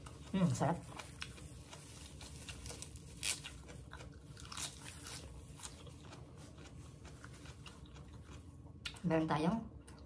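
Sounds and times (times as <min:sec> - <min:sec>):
person chewing crunchy food: 0:00.0 - 0:09.1.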